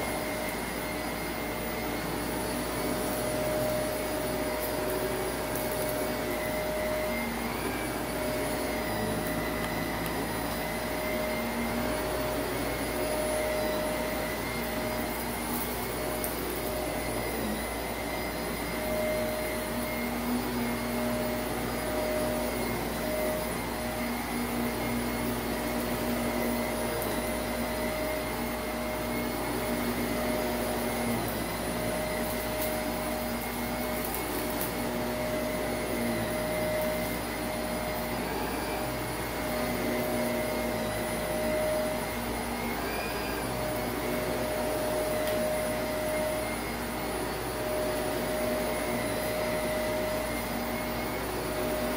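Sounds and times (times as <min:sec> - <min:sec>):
vacuum cleaner motor humming: 0:00.0 - 0:51.9.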